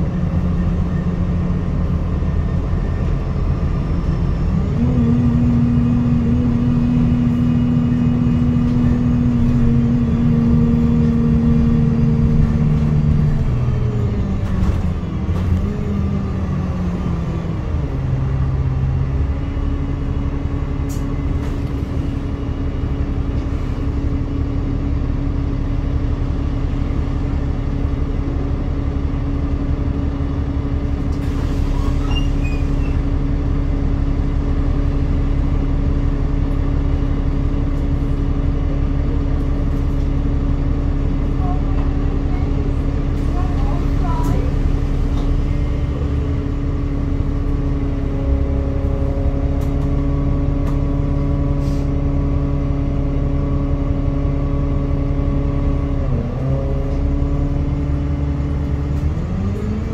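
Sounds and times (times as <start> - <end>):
bus engine drone: 0.0 - 59.9
road noise: 0.0 - 59.9.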